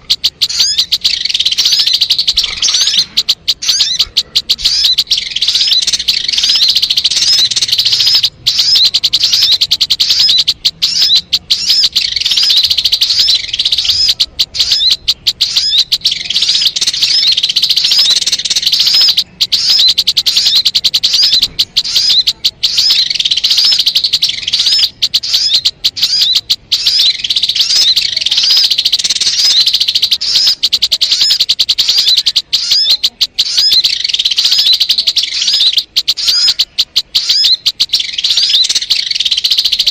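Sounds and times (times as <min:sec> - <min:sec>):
bird rapid high-pitched chirping: 0:00.0 - 0:39.9.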